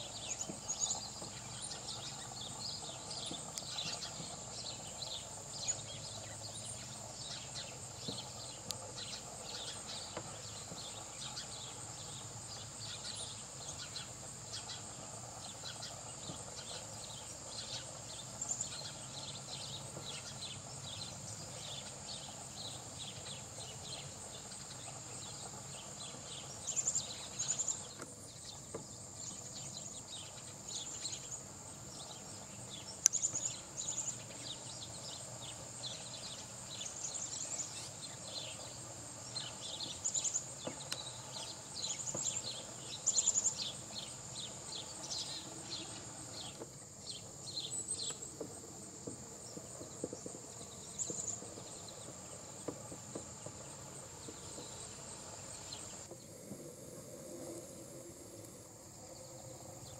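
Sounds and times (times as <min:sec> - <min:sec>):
insect trill: 0:00.0 - 0:59.9.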